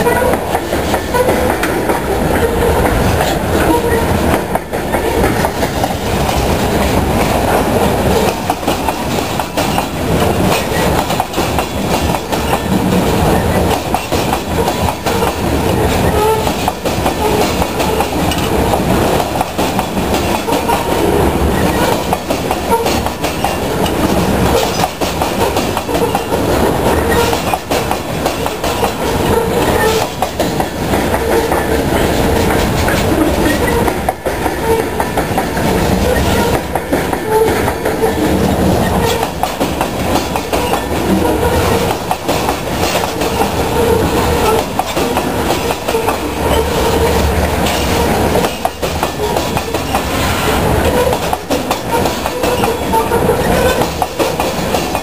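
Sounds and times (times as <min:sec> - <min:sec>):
freight train rumbling past: 0:00.0 - 0:55.0
wheels clicking over rail joints: 0:00.0 - 0:55.0.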